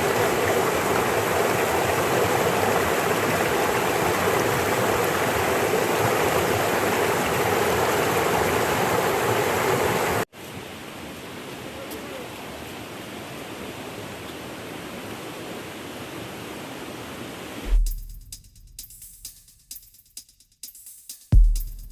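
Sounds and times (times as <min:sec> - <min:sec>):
river water rushing over rocks: 0:00.0 - 0:17.6.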